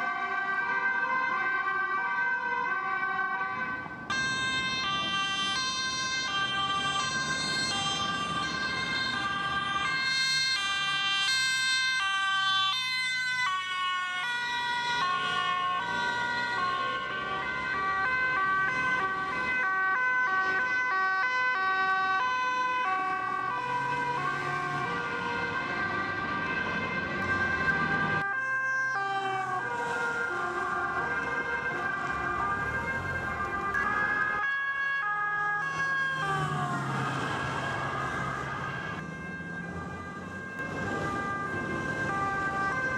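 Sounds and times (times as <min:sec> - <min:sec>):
traffic noise: 0:00.0 - 0:42.9
two-tone police sirens: 0:00.0 - 0:42.9.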